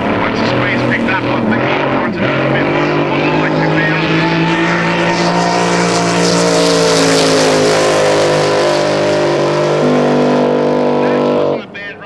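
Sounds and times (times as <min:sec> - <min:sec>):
racing boat engine running hard: 0:00.0 - 0:12.0.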